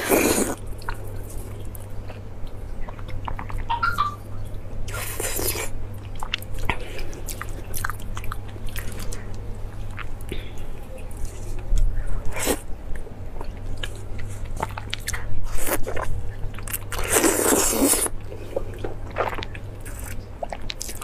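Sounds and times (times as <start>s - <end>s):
steady low hum: 0.0s - 21.0s
wet chewing and mouth noises: 0.0s - 21.0s.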